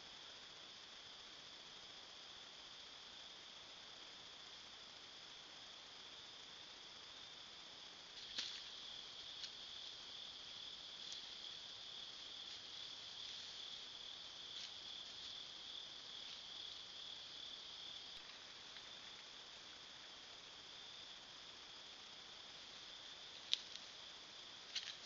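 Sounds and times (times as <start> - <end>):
night insects chorus: 0.0 - 25.0
recorder hiss: 0.0 - 25.0.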